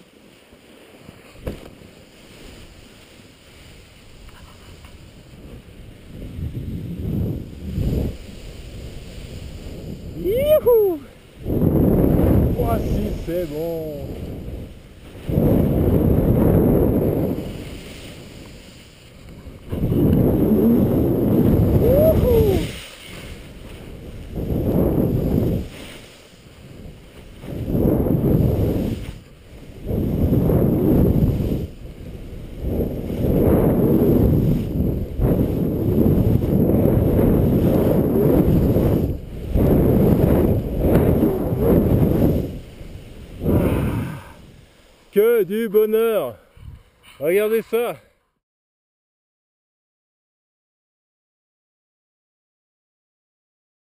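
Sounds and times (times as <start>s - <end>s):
skis sliding through snow: 0.0s - 46.2s
wind rushing over microphone: 0.0s - 48.0s.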